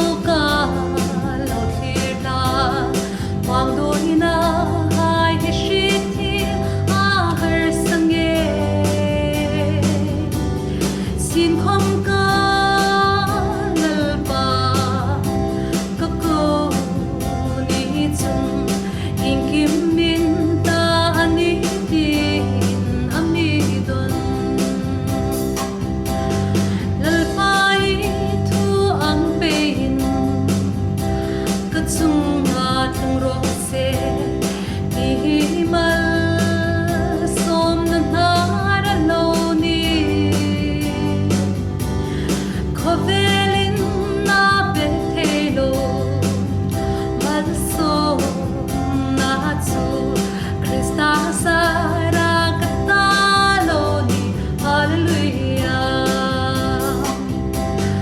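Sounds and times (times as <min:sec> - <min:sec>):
guitar and band accompaniment: 0:00.0 - 0:58.0.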